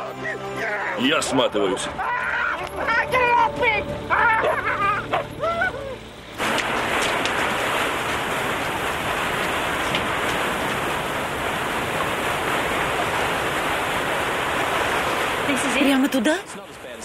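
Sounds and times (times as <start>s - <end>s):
pouring water rushing: 0.9s - 17.0s.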